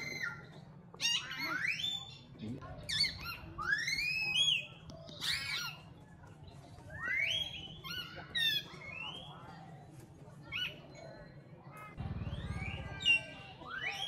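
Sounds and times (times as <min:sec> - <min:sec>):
monkeys calling: 0:00.0 - 0:06.2, 0:06.9 - 0:09.4, 0:10.4 - 0:14.0.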